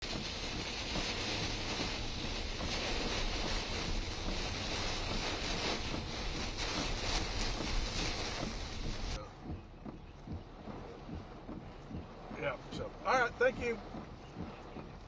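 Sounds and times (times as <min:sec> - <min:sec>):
heavy rain: 0:00.0 - 0:15.0
wind rumbling on microphone: 0:00.0 - 0:15.0.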